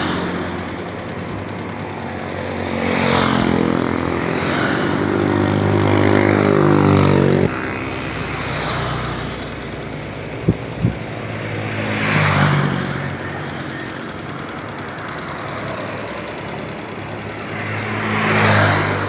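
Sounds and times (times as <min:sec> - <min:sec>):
diesel bus engine pulling away: 0:00.0 - 0:19.0
rough low engine note: 0:00.0 - 0:19.0.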